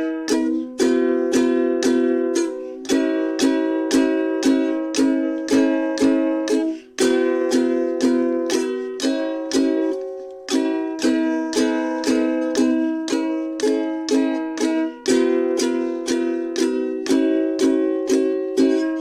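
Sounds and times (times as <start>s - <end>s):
plucked string instrument strumming: 0.0s - 19.0s.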